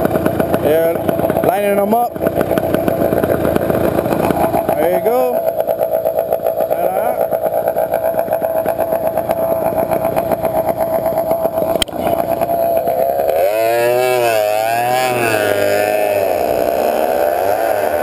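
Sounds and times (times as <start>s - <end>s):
small engines idling and revving: 0.0s - 18.0s.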